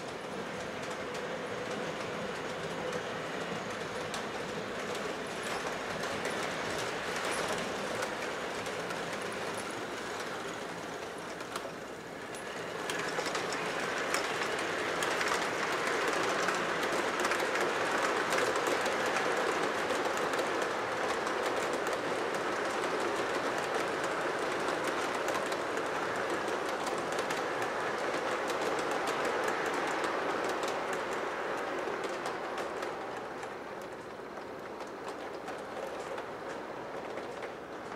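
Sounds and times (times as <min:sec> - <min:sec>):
model train wheels rumbling: 0:00.0 - 0:37.9
wheels clicking over rail joints: 0:00.0 - 0:37.9.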